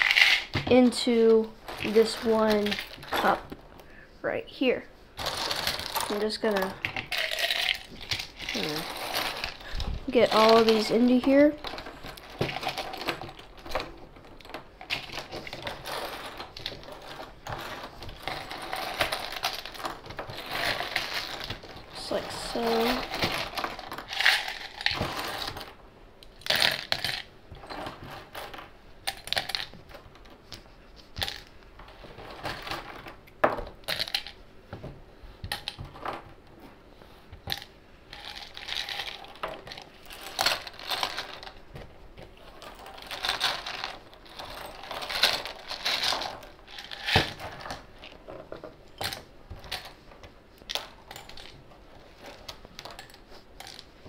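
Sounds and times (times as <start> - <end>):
plastic toy pieces clattering: 0.0 - 3.6, 5.2 - 30.4, 31.1 - 34.4, 37.5 - 50.0, 50.6 - 54.0.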